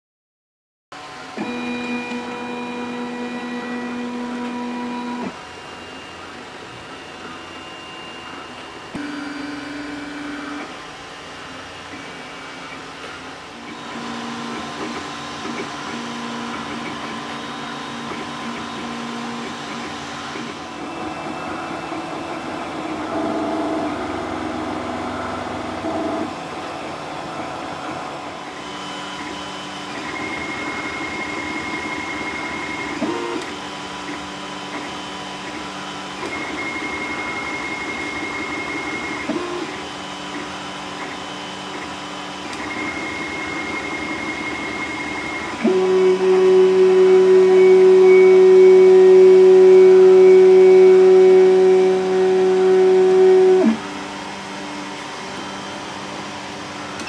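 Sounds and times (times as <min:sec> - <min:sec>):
cooling fans whirring: 0:01.0 - 0:57.0
stepper motors whining: 0:01.0 - 0:57.0.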